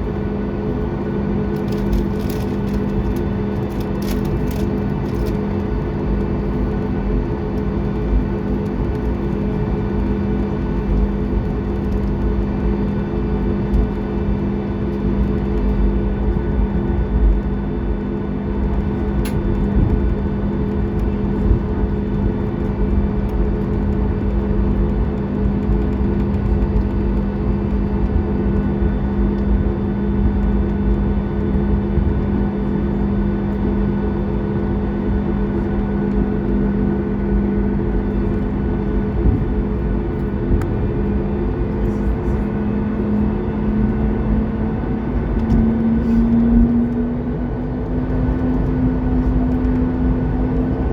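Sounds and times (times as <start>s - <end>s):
jet engines humming in cabin: 0.0s - 50.9s.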